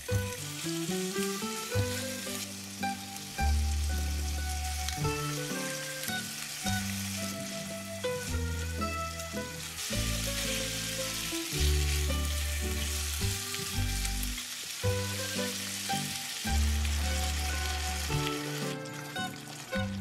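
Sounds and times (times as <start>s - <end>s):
background music: 0.0s - 20.0s
food frying sizzle: 0.0s - 20.0s.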